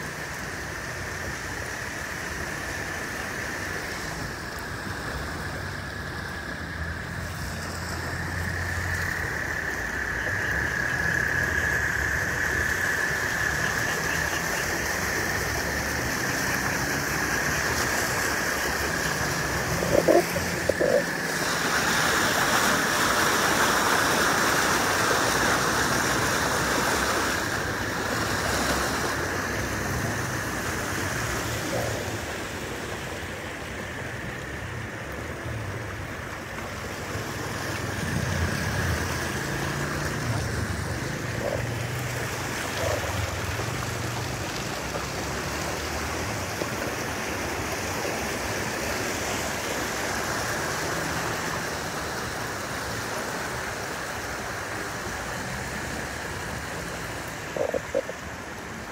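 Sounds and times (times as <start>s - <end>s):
heavy rain: 0.0s - 58.9s
water splashing under tyres: 0.0s - 58.9s
low engine hum: 0.3s - 48.4s.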